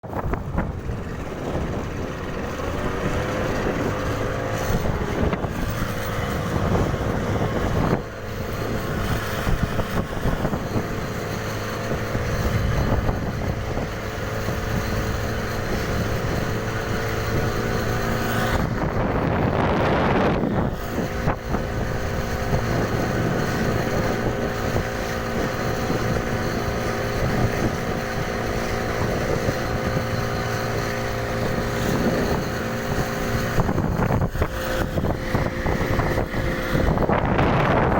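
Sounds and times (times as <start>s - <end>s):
boat engine running: 0.0s - 37.9s.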